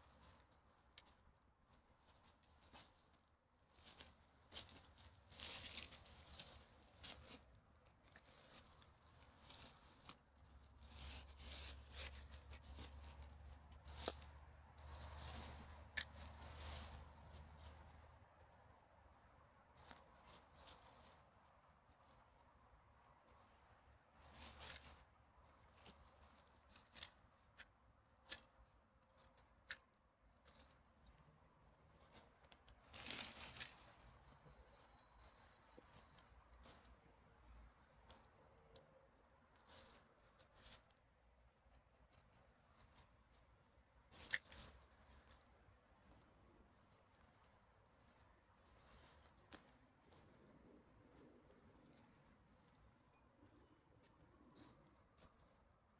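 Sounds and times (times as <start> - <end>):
rubbish rustling and crinkling: 0.0 - 18.3, 19.8 - 22.4, 23.3 - 38.3, 39.5 - 55.7.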